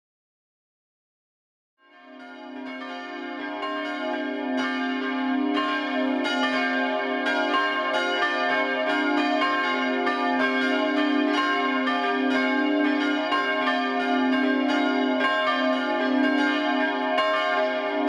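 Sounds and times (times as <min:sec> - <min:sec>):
church bells ringing: 0:01.8 - 0:18.0.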